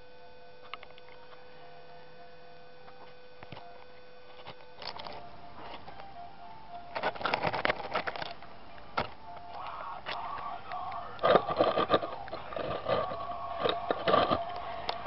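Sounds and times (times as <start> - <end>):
steady whine: 0.0 - 15.0.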